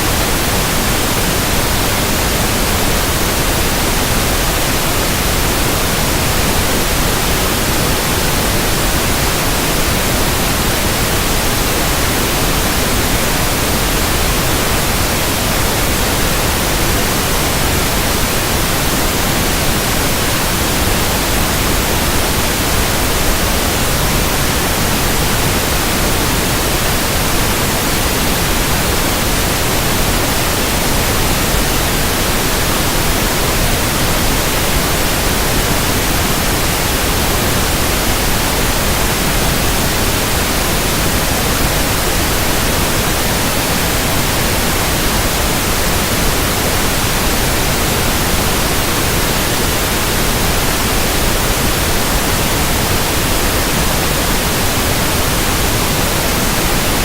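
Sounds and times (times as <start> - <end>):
pink noise test signal: 0.0 - 57.0.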